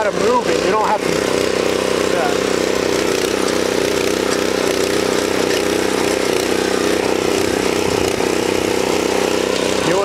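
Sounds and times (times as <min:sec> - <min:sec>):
tiller engine running: 0:00.0 - 0:10.0.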